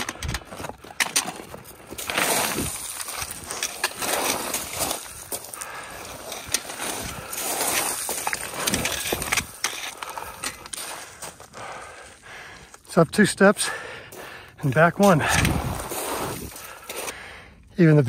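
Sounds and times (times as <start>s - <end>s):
trekking poles clicking on rock: 0.0s - 12.1s, 14.7s - 17.2s
boots crunching on scree: 0.0s - 17.3s.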